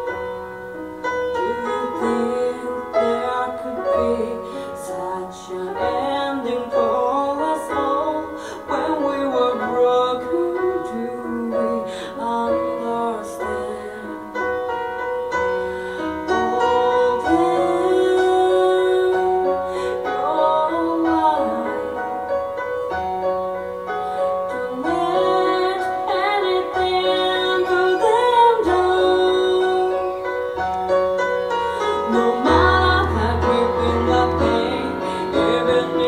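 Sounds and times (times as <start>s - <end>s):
woman singing: 1.2s - 15.0s, 15.6s - 22.5s, 24.0s - 36.0s.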